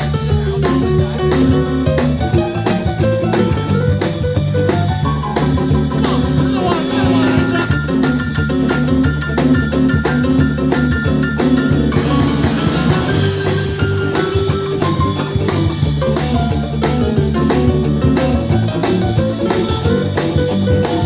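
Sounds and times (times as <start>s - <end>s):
blues band playing: 0.0s - 21.0s
electric guitar sliding: 0.0s - 21.0s.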